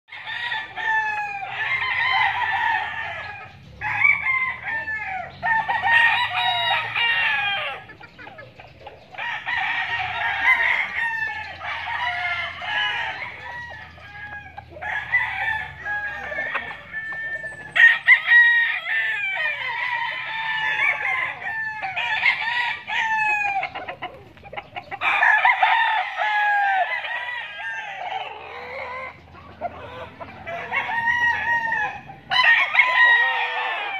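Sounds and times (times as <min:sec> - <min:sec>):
roosters crowing: 0:00.1 - 0:33.9.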